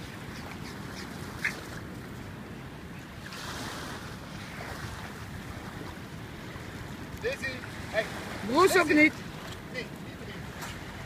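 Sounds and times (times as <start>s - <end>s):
small waves washing onto shore: 0.0s - 11.0s.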